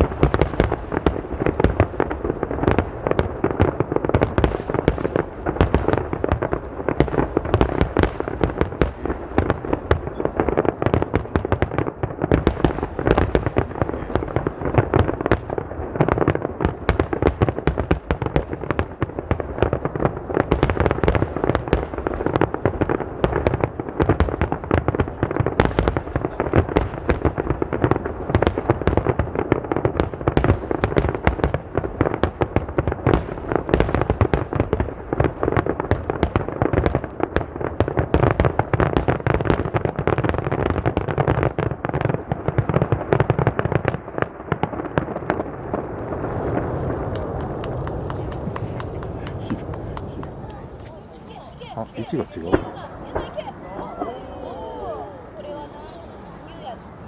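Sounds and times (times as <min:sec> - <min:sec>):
fireworks bursts and crackling: 0:00.0 - 0:57.0.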